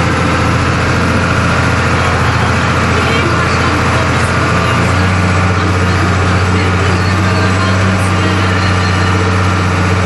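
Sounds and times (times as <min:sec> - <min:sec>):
tractor diesel engine drone: 0:00.0 - 0:10.0.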